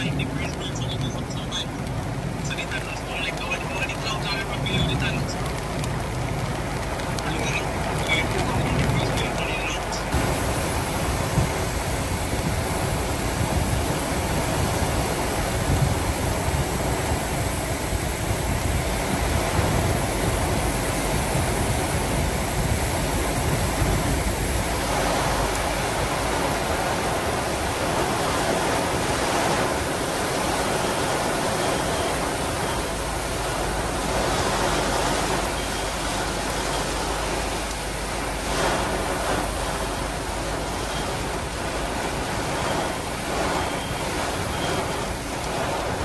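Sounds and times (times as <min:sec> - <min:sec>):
heavy rain: 0:00.0 - 0:46.0
low thunder rumble: 0:00.0 - 0:46.0.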